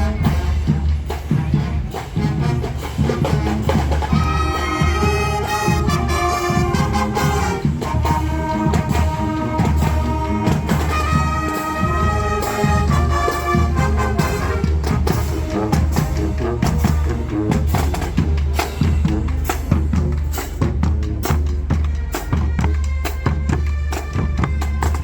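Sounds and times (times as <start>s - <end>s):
bass drum and snare: 0.0s - 25.0s
brass chords: 0.0s - 25.0s.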